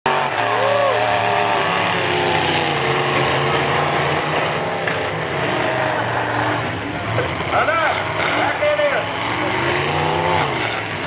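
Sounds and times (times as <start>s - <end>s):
truck engines revving: 0.1s - 11.0s.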